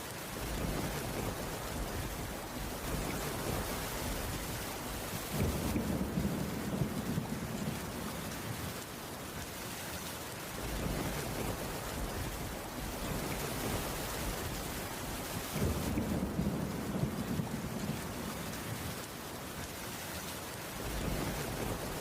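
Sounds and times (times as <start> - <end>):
heavy rain falling: 0.0 - 22.0
distant thunder rumble: 0.4 - 8.8, 10.6 - 19.1, 20.8 - 22.0.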